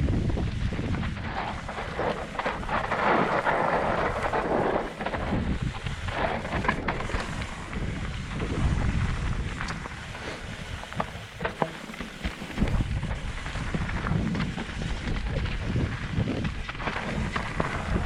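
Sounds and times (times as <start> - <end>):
bike clattering: 0.0 - 18.0
tyres hissing over dirt and rock: 0.0 - 18.0
wind rumbling on microphone: 0.0 - 18.0.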